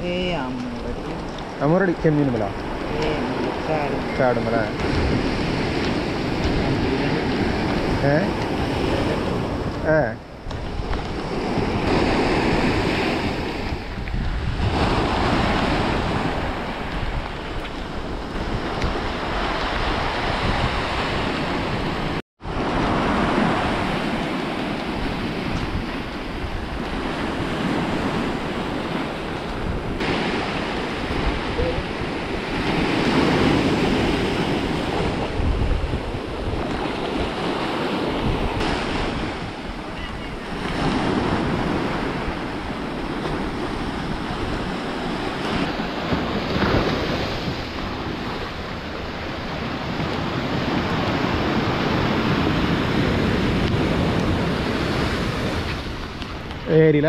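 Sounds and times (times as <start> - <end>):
waves breaking on shore: 0.0 - 57.0
wind buffeting microphone: 0.0 - 57.0.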